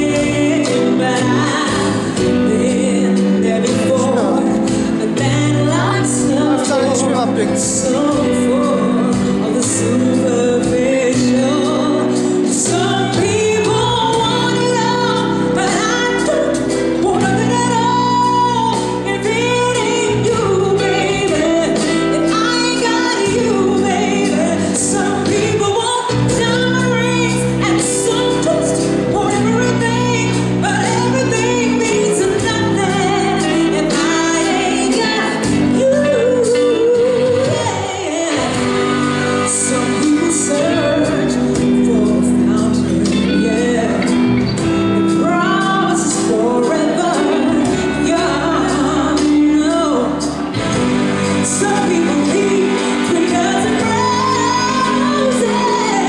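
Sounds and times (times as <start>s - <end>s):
instrumental accompaniment: 0.0s - 56.0s
woman singing into microphone: 0.0s - 56.0s.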